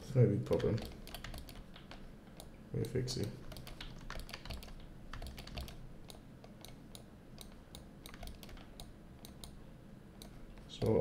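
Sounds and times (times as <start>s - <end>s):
keyboard keys clicking: 0.5s - 9.6s.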